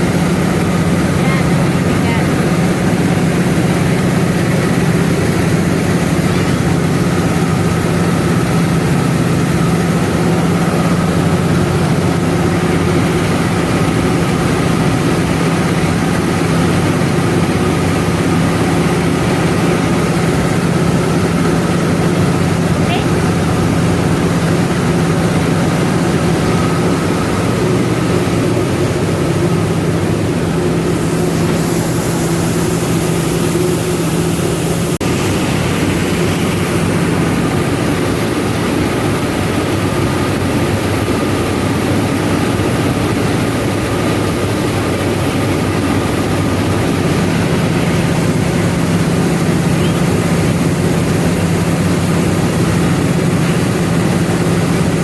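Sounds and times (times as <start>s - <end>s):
milling machinery humming: 0.0s - 55.0s.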